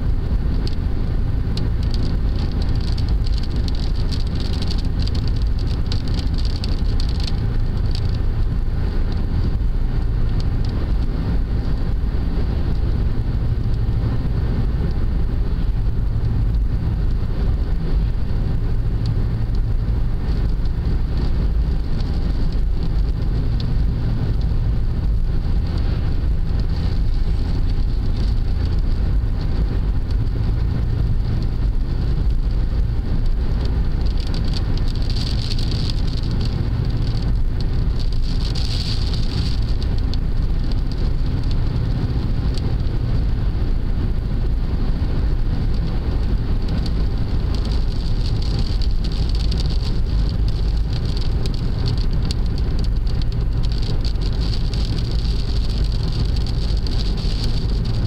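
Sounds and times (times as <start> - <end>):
hiss of wet road and rain: 0.0 - 58.0
tyres and engine rumbling: 0.0 - 58.0.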